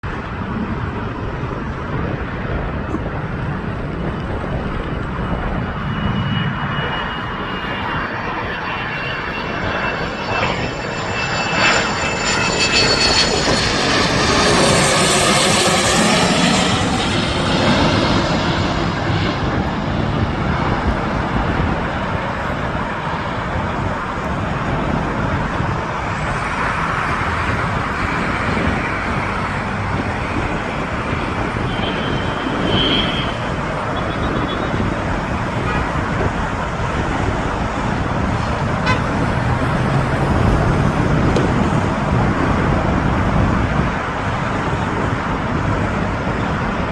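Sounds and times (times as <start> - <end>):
jet engines passing: 0.0 - 46.9.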